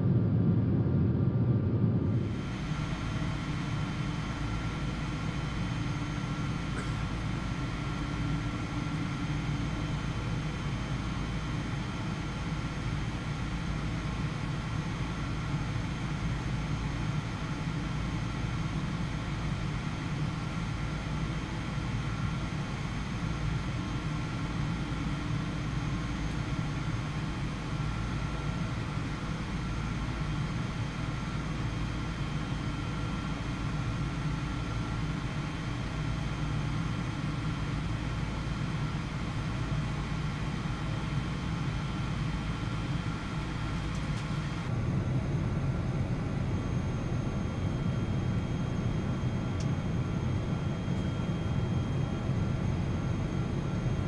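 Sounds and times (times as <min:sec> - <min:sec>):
faint steady whines: 0:00.0 - 0:54.0
jet engine rumble in cabin: 0:00.0 - 0:54.0.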